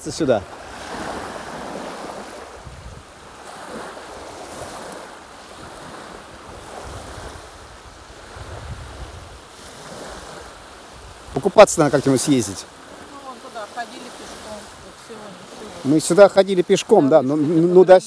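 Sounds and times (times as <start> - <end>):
wind rumbling on microphone: 0.0 - 15.9
small waves washing onto shore: 0.0 - 18.0.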